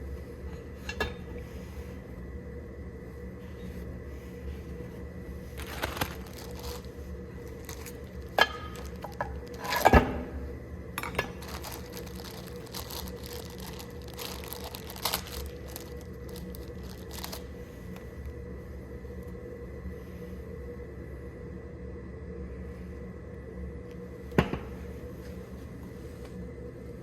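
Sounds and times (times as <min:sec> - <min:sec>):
low hum: 0:00.0 - 0:22.6.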